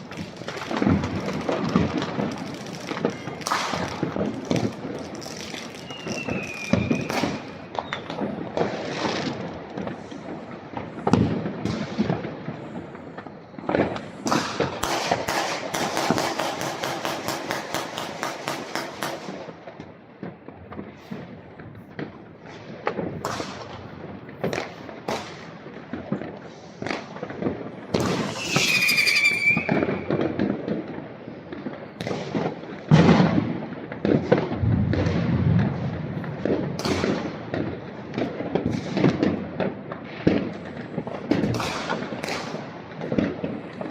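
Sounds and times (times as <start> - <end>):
whistling rockets: 0.0 - 19.5, 20.9 - 39.4, 40.2 - 43.9
firecrackers cracking: 0.0 - 43.9
fireworks bangs and booms: 0.0 - 43.9.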